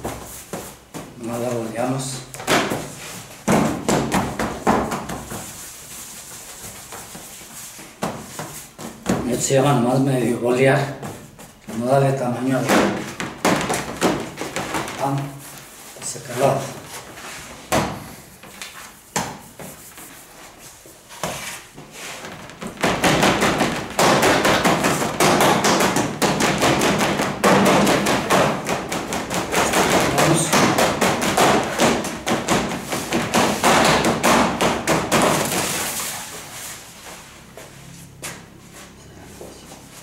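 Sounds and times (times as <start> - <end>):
hands patting dough on metal tray: 0.0 - 9.8, 10.8 - 36.5.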